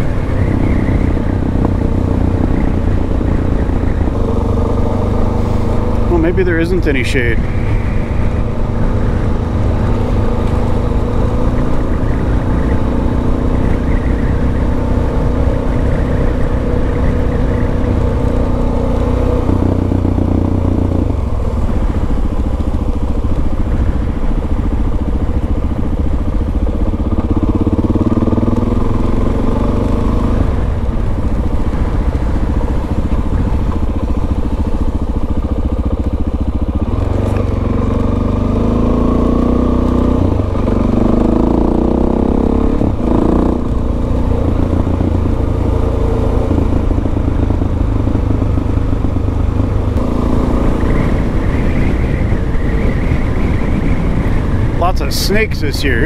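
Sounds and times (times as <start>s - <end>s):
motorcycle engine revving: 0.0s - 55.2s.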